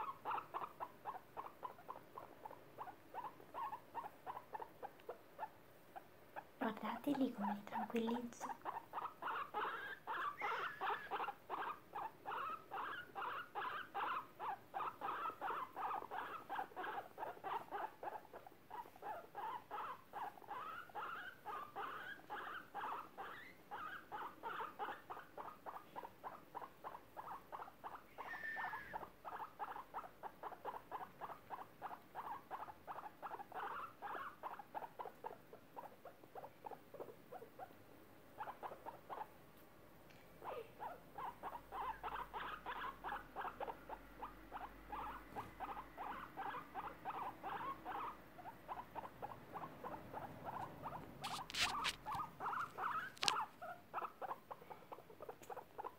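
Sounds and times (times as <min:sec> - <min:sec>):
guinea pigs squeaking: 0:00.0 - 0:39.3, 0:40.4 - 0:55.9.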